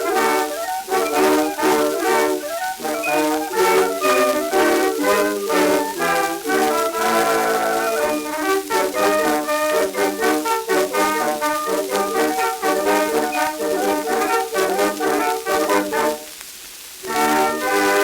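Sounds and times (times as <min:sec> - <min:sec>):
brass instrumental music: 0:00.0 - 0:16.4, 0:17.0 - 0:18.0
record surface hiss: 0:00.0 - 0:18.0.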